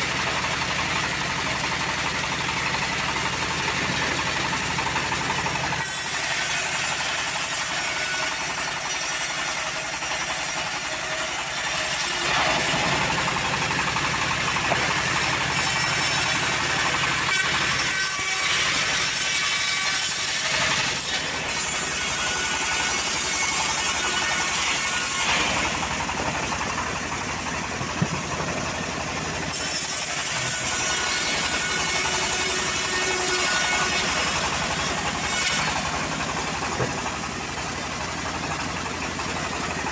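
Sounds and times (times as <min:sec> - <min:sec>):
bandsaw blade sawing wood: 0:00.0 - 0:39.9
sawmill engine droning: 0:00.0 - 0:39.9.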